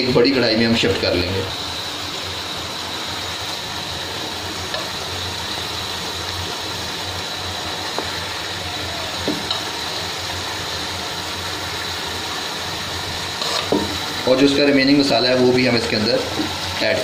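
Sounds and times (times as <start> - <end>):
chicken frying in oil: 0.0 - 17.0.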